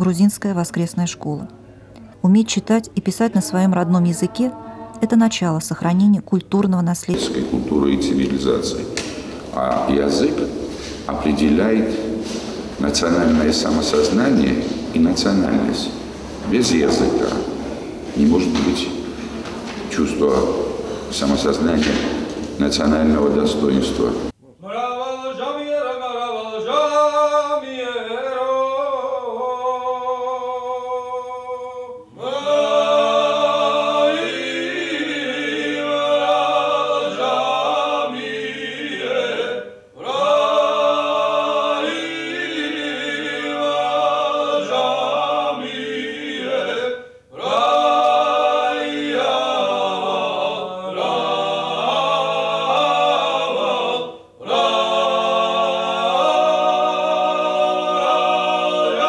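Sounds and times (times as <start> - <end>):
male trio singing in harmony: 7.1 - 59.0.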